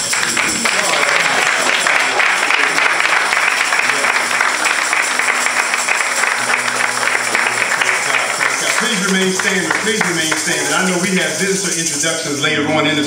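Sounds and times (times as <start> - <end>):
congregation applauding: 0.0 - 12.0.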